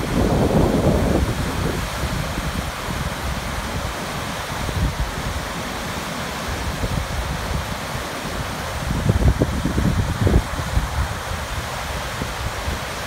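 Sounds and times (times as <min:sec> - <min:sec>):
river rapids rushing over boulders: 0:00.0 - 0:13.0.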